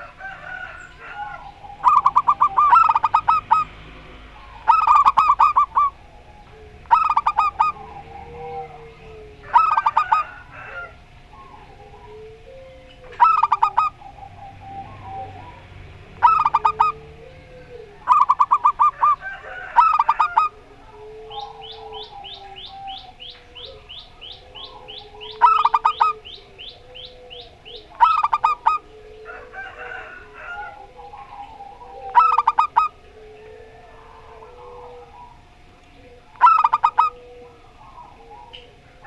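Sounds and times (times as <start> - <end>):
doves staccato cooing: 0.0 - 39.0
soft low bird calls: 0.0 - 39.0.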